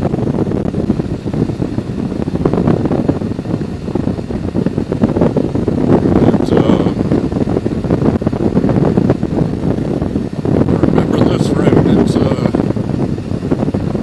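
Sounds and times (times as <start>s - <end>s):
motorcycle engine at road speed: 0.0s - 14.0s
wind buffeting microphone: 0.0s - 14.0s.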